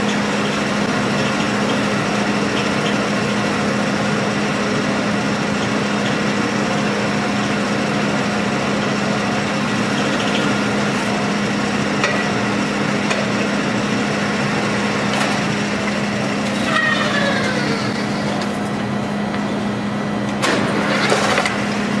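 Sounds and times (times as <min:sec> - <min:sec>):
metal spinning lathe humming: 0:00.0 - 0:20.3.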